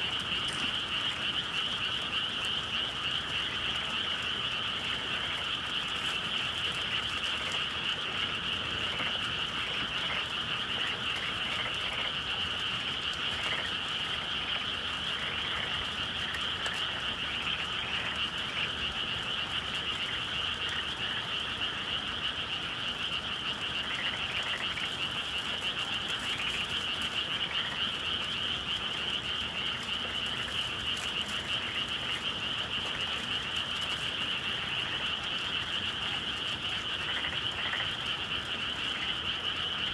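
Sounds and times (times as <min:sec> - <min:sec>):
chorus of frogs trilling: 0:00.0 - 0:39.9.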